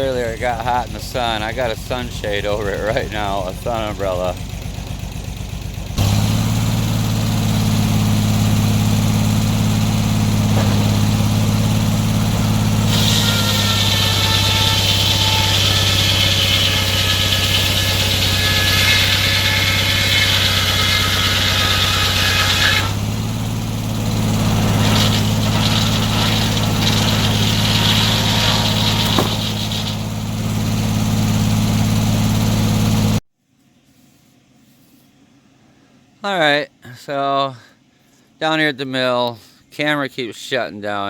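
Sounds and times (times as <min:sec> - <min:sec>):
sawmill engine running: 0:00.0 - 0:33.2.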